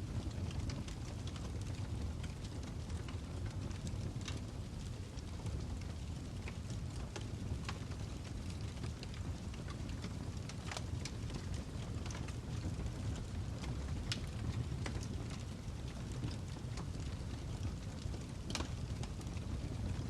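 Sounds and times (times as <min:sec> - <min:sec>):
logs crackling and popping: 0:00.0 - 0:20.0
low rumble of flames: 0:00.0 - 0:20.0.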